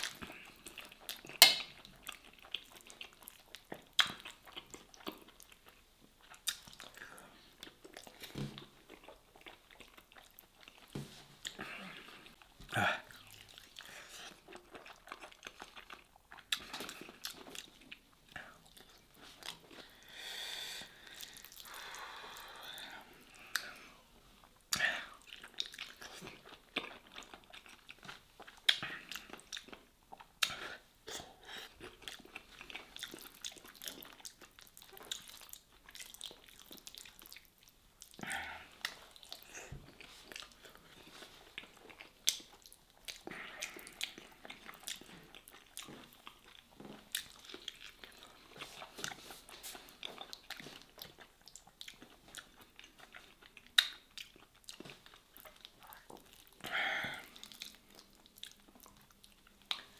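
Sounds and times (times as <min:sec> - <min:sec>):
person chewing and smacking lips: 0:00.0 - 0:20.2, 0:20.8 - 0:59.9.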